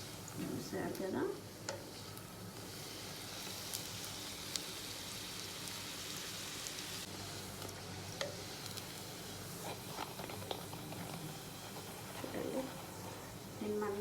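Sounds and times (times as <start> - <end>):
deep-frying sizzle: 0.0 - 14.0.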